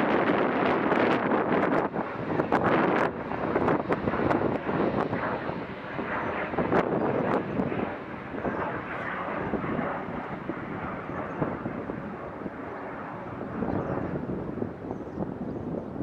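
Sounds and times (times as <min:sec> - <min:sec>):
aircraft engines rushing: 0:00.0 - 0:16.0
wind on microphone: 0:00.0 - 0:16.0.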